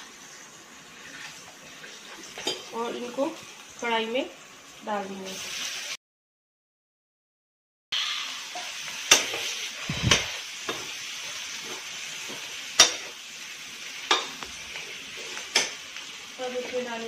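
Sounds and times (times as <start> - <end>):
potatoes sizzling in oil: 0.0 - 6.0, 8.0 - 17.0.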